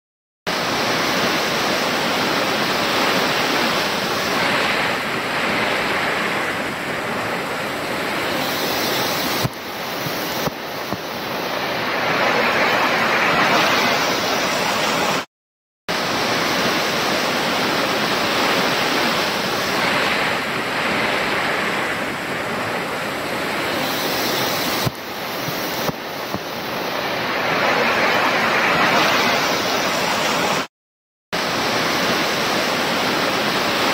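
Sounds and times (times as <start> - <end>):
torrential rain pouring: 0.5 - 15.3, 15.9 - 30.7, 31.4 - 33.9.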